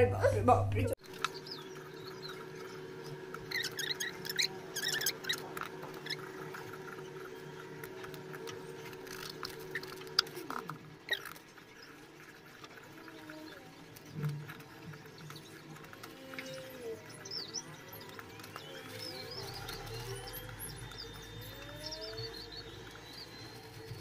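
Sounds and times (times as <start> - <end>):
faint high chirps: 1.0 - 24.0.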